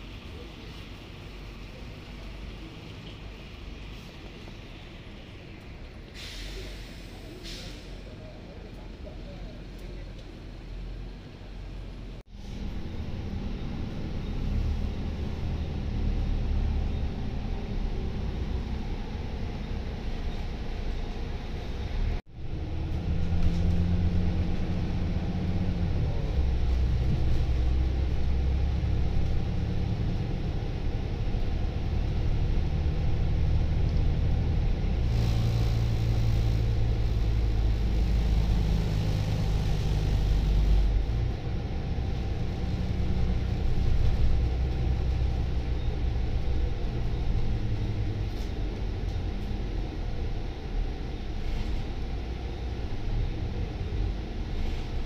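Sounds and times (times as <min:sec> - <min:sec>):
bus diesel engine running: 0:00.0 - 0:55.0
road and tyre rumble: 0:00.0 - 0:55.0.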